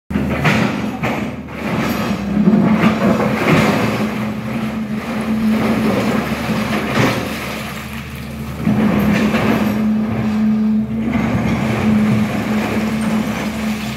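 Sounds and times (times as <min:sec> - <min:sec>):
excavator diesel engine running: 0:00.1 - 0:13.9.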